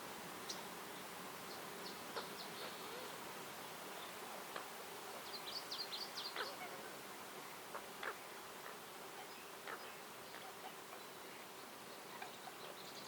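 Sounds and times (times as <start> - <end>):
insect hum: 0.0 - 13.0
songbird chirping: 0.4 - 13.0.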